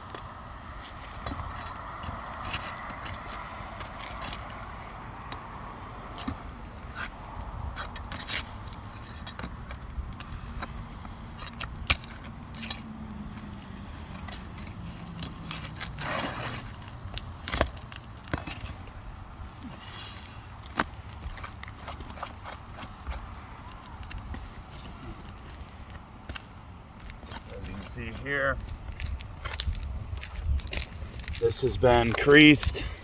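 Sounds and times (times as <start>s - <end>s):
roof shingle scraping and crackling: 0.1s - 33.0s.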